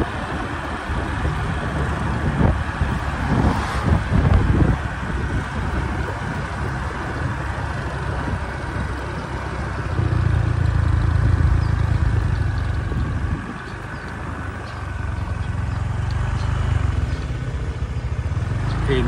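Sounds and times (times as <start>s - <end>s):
low hum: 0.0s - 18.9s
road and wind noise: 0.0s - 19.0s
vehicle engine running: 0.0s - 19.0s.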